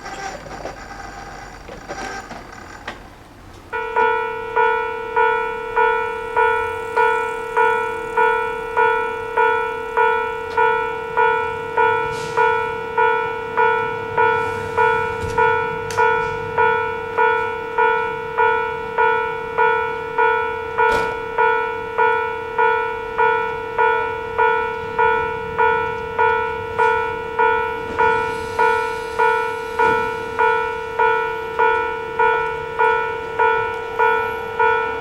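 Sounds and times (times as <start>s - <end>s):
level-crossing electronic bell: 3.7s - 20.6s, 21.4s - 35.0s.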